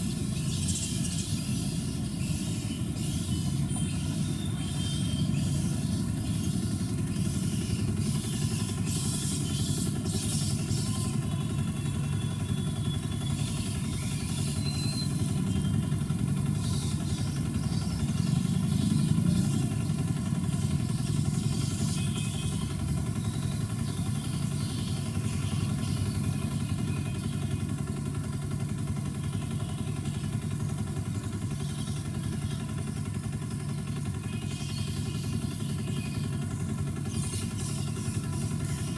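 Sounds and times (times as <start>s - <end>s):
low engine-like rumble: 0.0s - 38.9s.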